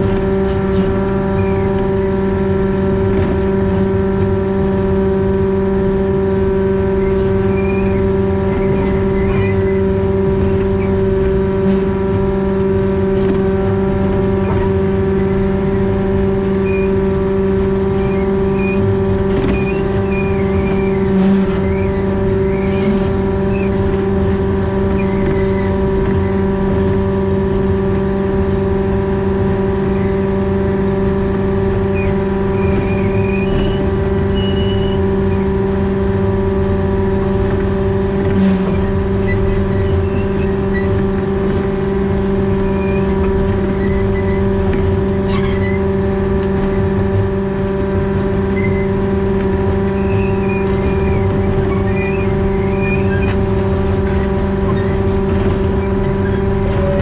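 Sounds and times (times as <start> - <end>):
locomotive diesel engine running: 0.0 - 57.0.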